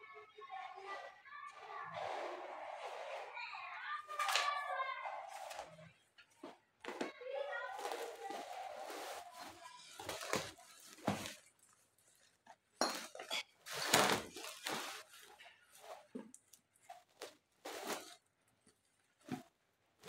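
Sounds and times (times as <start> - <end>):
hard objects clinking and clattering: 1.8 - 18.2.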